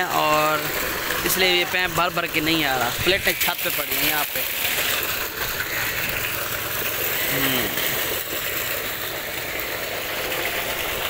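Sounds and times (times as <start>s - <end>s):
water gushing from pipe: 0.0s - 11.0s.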